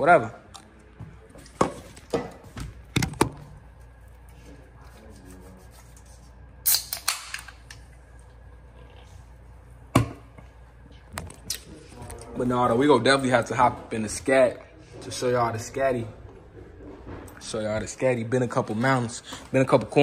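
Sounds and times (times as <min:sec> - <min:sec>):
low room noise: 0:00.0 - 0:20.0.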